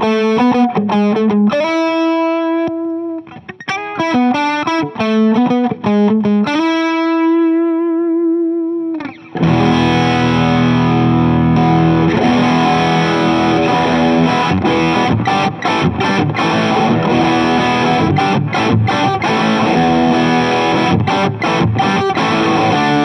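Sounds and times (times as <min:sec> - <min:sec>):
overdriven electric guitar: 0:00.0 - 0:23.0.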